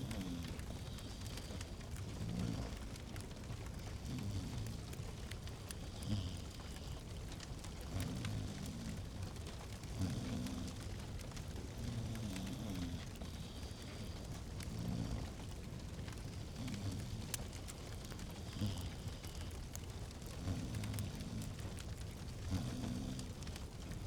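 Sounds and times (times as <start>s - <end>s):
low rumble of flame: 0.0s - 24.0s
wood fire crackling and popping: 0.0s - 24.0s.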